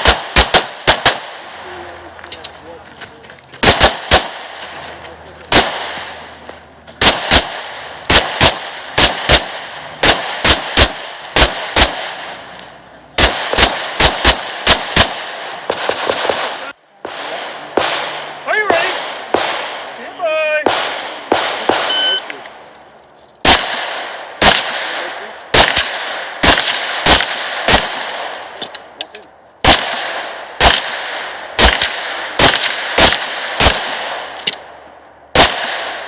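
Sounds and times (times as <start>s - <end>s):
pistol shots: 0.0s - 1.6s, 3.6s - 4.7s, 5.5s - 6.4s, 7.0s - 12.4s, 13.2s - 22.5s, 23.4s - 29.0s, 29.6s - 36.0s.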